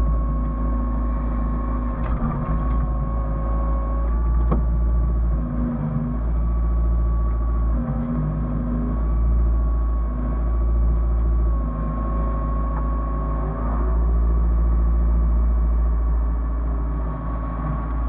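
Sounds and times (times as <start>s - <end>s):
excavator diesel engine running: 0.0s - 18.0s
high mechanical whine: 0.0s - 18.0s.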